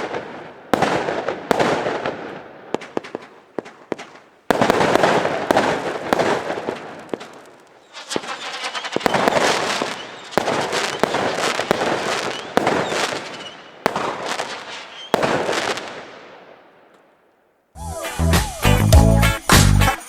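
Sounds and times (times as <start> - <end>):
firework crackling: 0.0 - 16.6
firework bangs: 0.0 - 17.0.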